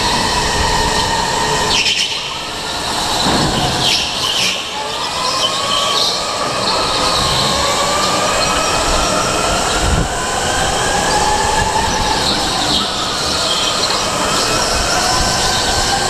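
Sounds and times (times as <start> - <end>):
go-kart drive whine: 0.0 - 16.0.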